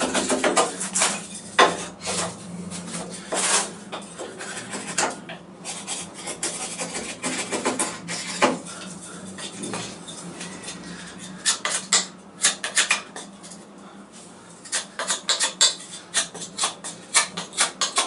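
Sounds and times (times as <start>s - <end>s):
knife scraping wood: 0.0s - 13.3s, 14.6s - 18.0s.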